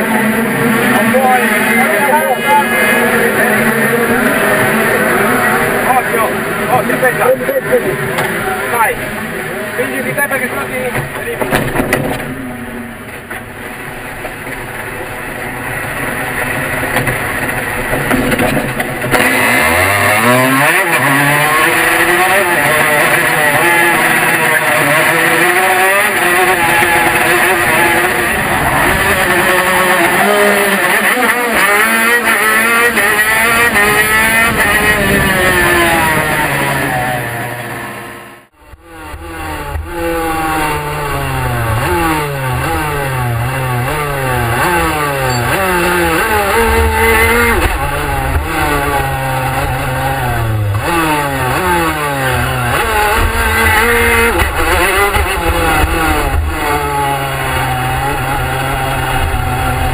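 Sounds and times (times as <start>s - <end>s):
two-stroke kart engine accelerating: 0.0s - 59.9s.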